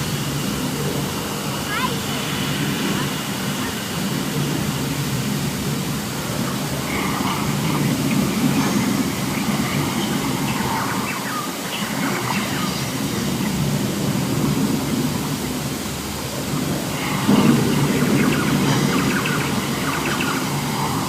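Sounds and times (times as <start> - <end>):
rain: 0.0 - 21.0
rumbling thunder: 0.0 - 21.0.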